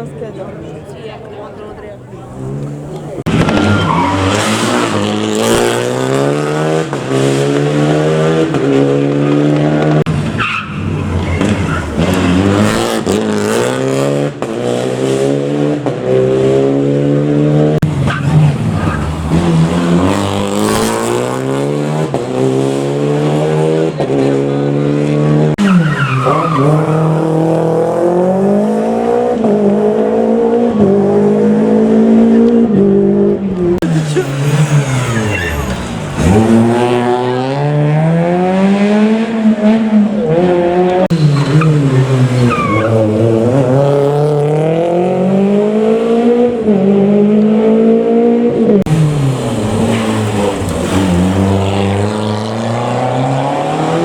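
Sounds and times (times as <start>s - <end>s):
rally car engine revving: 2.2s - 54.0s.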